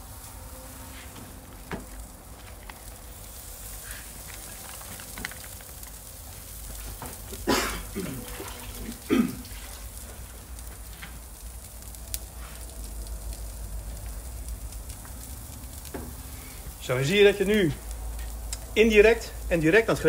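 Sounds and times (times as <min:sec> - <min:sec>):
burger patties sizzling on a grill: 0:00.0 - 0:20.0.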